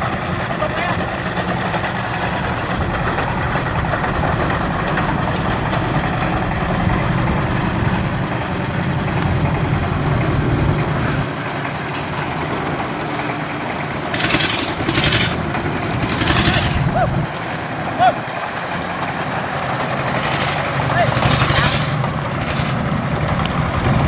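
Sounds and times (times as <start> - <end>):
boat propeller engine running: 0.0 - 24.0.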